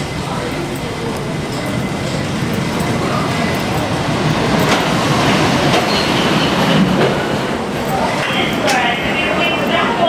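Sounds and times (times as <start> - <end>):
roller coaster rumbling on track: 0.0 - 10.0.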